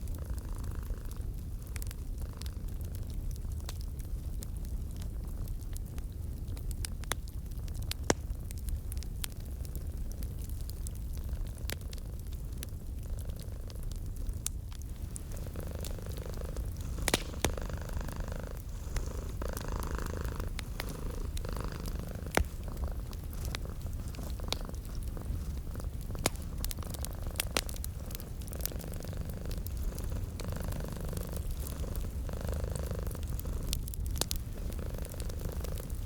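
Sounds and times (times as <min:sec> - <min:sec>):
cat purring: 0:00.0 - 0:03.2, 0:09.6 - 0:36.0
wood fire crackling: 0:00.0 - 0:36.0.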